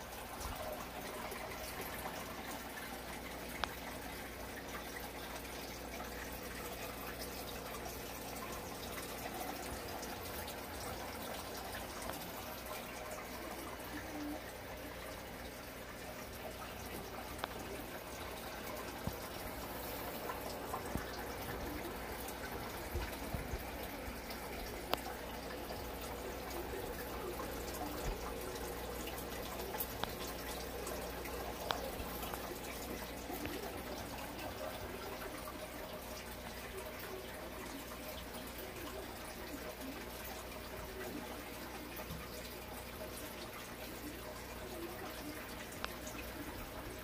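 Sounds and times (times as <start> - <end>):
aquarium water bubbling: 0.0 - 47.0.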